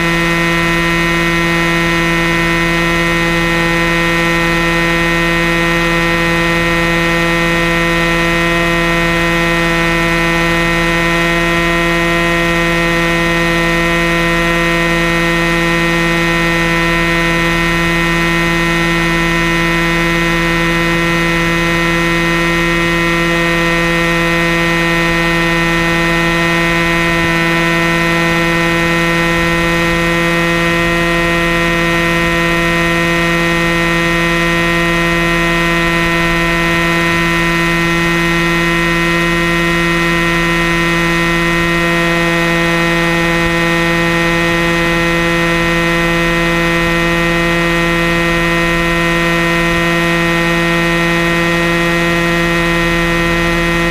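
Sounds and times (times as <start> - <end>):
model helicopter whine: 0.0 - 53.9.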